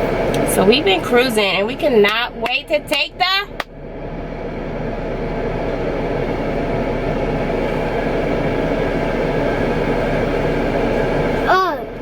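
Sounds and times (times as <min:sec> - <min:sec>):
car cabin rumble and hiss: 0:00.0 - 0:12.0.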